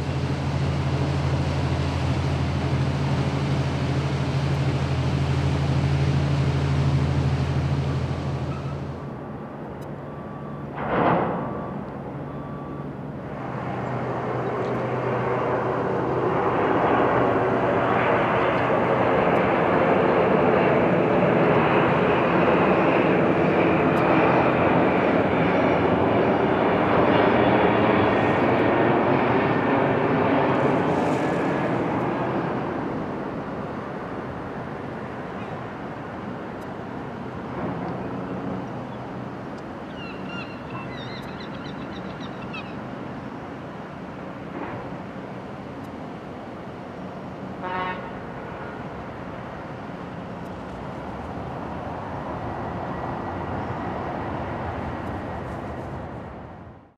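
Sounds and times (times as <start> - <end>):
jet airliner rumble: 0.0 - 56.9.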